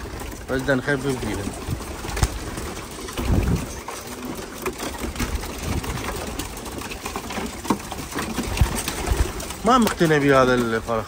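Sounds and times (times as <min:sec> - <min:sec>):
birds moving in nest boxes: 0:00.0 - 0:11.0
pigeons cooing: 0:00.0 - 0:11.0
wings clapping: 0:00.0 - 0:11.0.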